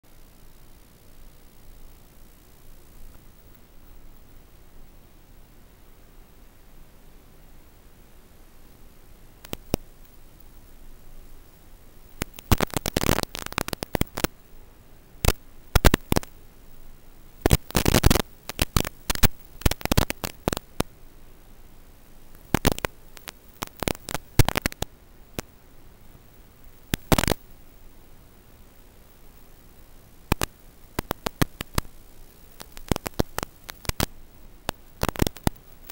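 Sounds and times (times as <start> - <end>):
crackling static: 0.0 - 35.9
low hiss and hum: 0.0 - 35.9.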